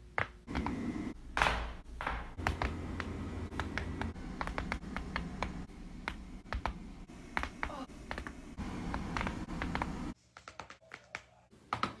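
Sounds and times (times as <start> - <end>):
low hum: 0.4 - 10.2.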